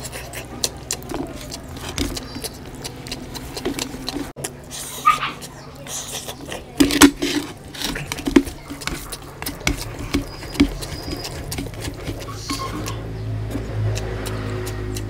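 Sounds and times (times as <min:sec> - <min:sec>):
chewing smacks and clicks: 0:00.0 - 0:15.0
fingers squishing food on plate: 0:00.0 - 0:15.0.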